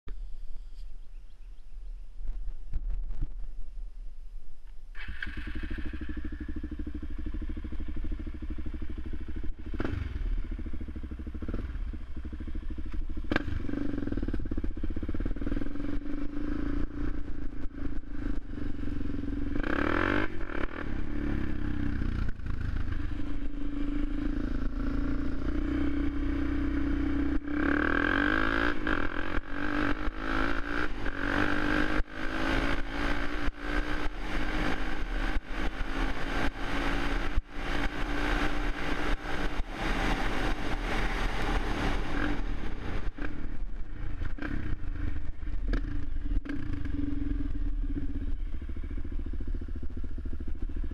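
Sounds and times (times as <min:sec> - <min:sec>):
quad bike engine revving: 0:05.0 - 0:50.9.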